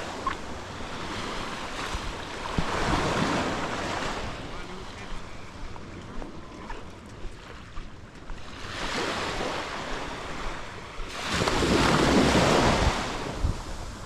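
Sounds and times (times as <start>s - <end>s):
small waves breaking on sand: 0.0s - 14.0s
wind rumble on microphone: 0.0s - 14.0s.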